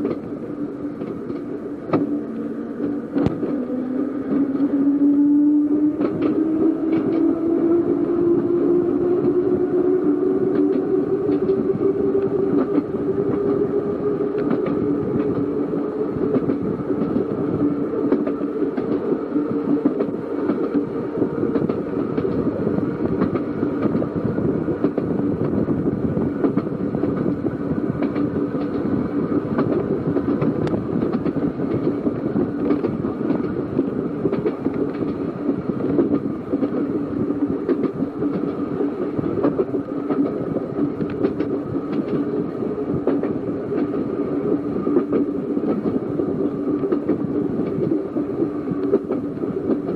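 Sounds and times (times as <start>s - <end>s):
electric tram motor hum: 0.0s - 49.9s
wheels clicking over rail joints: 5.8s - 49.9s.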